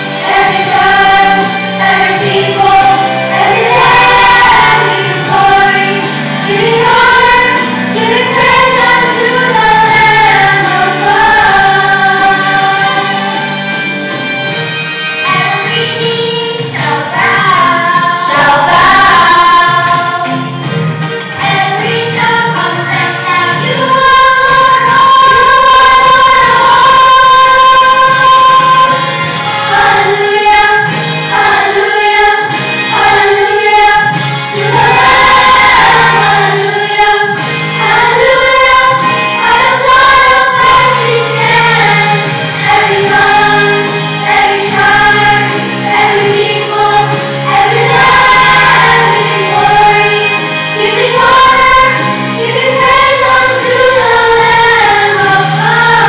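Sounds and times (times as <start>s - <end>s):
children's choir singing: 0.0s - 56.0s
musical backing: 0.0s - 56.0s.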